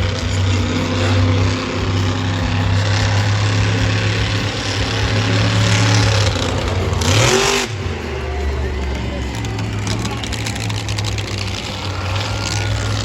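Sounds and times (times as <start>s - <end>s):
monster truck engine droning: 0.0s - 13.0s.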